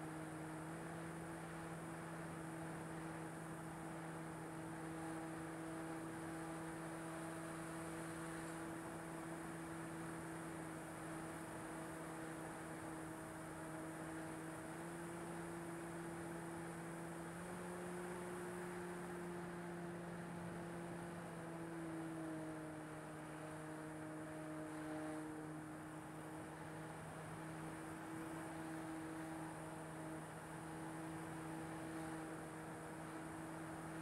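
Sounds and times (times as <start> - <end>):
model plane motor humming: 0.8 - 34.0.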